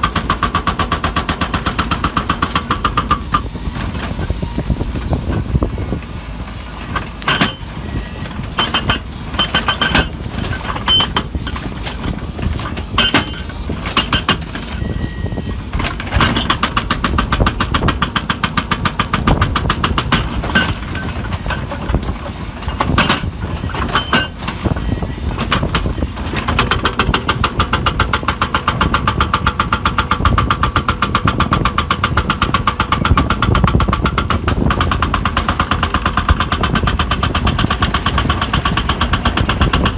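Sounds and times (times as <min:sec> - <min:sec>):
hydraulic rock breaker hammering rock: 0:00.0 - 0:06.1, 0:06.8 - 0:39.9
diesel engine running: 0:00.0 - 0:39.9.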